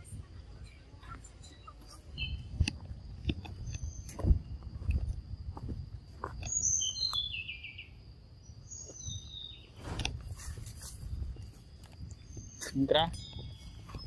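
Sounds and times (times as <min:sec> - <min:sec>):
bird chirping: 0:00.0 - 0:05.1, 0:06.2 - 0:14.0.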